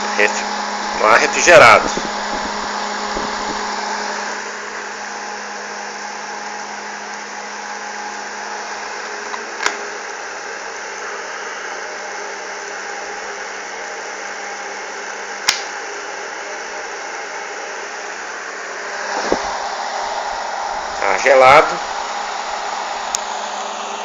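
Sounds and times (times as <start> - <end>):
fan running: 0.0 - 24.0.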